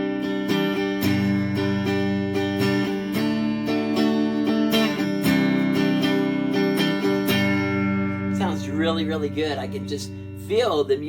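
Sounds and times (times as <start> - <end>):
clean electric guitar chords strummed: 0.0 - 11.0.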